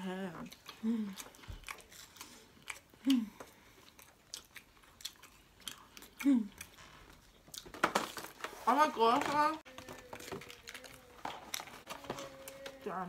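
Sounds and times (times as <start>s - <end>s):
person chewing food: 0.3s - 8.3s, 9.6s - 12.8s.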